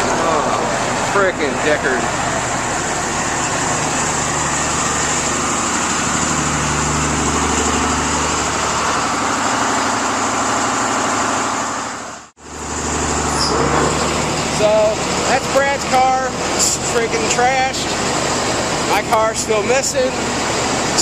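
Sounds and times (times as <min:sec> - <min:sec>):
outdoor noise: 0:00.0 - 0:21.0
vehicle engine idling: 0:00.0 - 0:21.0.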